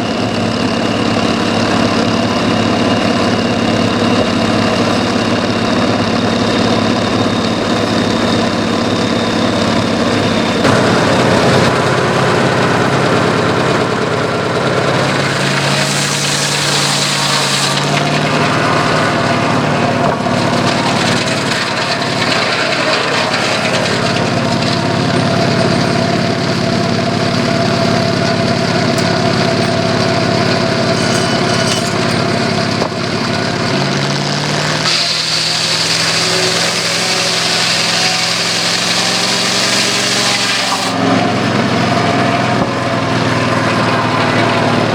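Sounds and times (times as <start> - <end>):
circular saw cutting logs: 0.0 - 44.9
sawmill engine running: 0.0 - 44.9.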